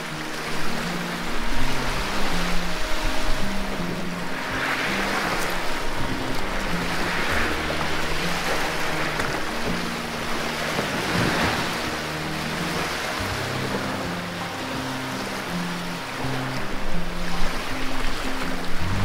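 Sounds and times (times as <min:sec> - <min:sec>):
music with low held notes: 0:00.0 - 0:19.0
water splashing around kayak: 0:00.0 - 0:19.0.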